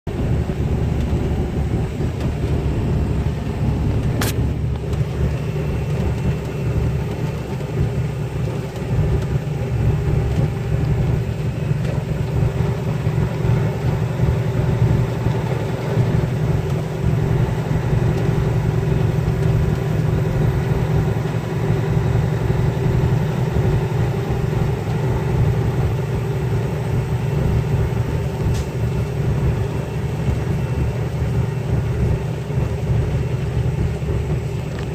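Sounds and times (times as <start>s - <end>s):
diesel truck engine rumbling: 0.0s - 34.9s.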